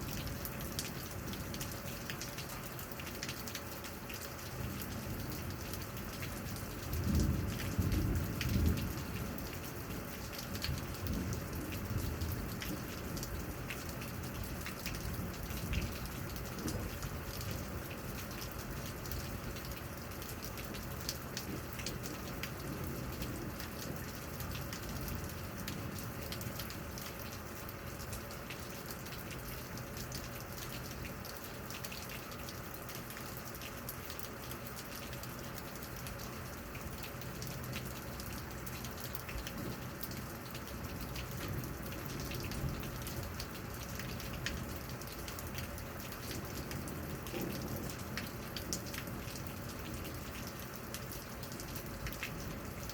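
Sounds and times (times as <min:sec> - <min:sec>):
rain falling: 0:00.0 - 0:52.9
raindrops pattering on surface: 0:00.0 - 0:52.9.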